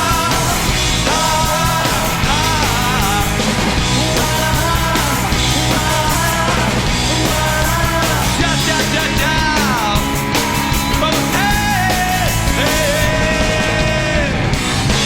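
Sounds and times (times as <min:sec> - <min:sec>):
guitar lead line bending: 0:00.0 - 0:15.0
live rock band playing: 0:00.0 - 0:15.0.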